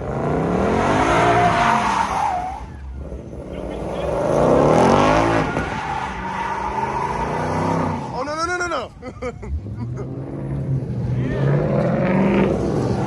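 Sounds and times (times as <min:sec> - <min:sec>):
car engine revving hard: 0:00.0 - 0:08.2, 0:09.4 - 0:13.0
tires squealing: 0:00.0 - 0:13.0.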